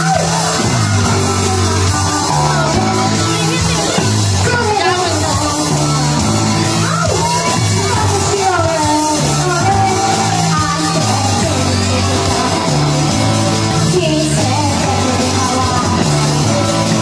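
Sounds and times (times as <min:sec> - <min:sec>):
bass line: 0:00.0 - 0:17.0
drum kit: 0:00.0 - 0:17.0
person singing: 0:00.0 - 0:17.0.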